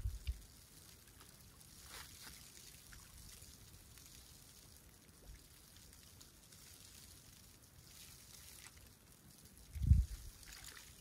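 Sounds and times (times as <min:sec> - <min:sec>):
tiny water splashes: 0:00.0 - 0:11.0
seawater lapping at shore: 0:00.1 - 0:11.0.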